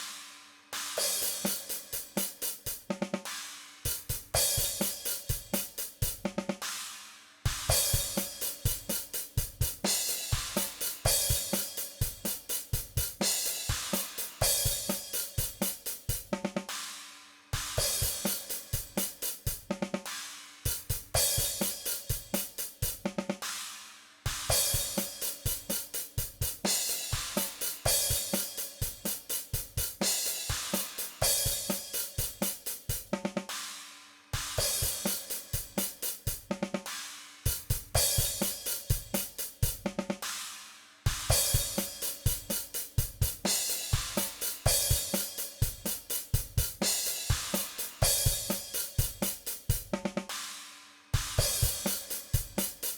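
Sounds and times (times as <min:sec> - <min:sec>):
hi-hat and cymbals: 0:00.0 - 0:52.9
rock drum beat: 0:00.0 - 0:52.9
snare drum: 0:00.0 - 0:52.9.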